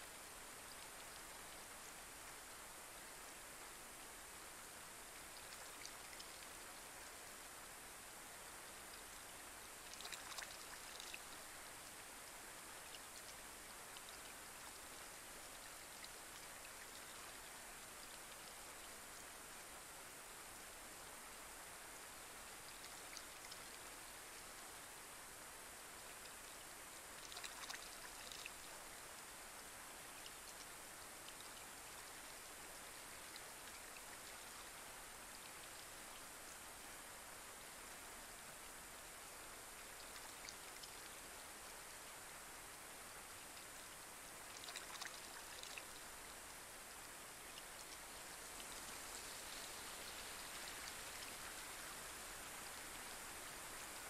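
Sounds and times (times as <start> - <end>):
light rain on a pond: 0.0 - 54.0.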